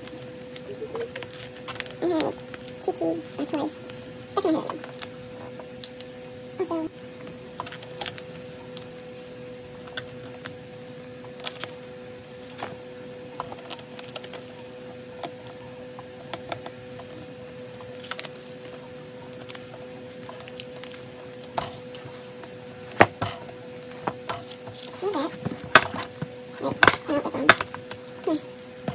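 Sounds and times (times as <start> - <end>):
faint hum: 0.0 - 28.9
plastic sleeves rustling: 0.0 - 28.9.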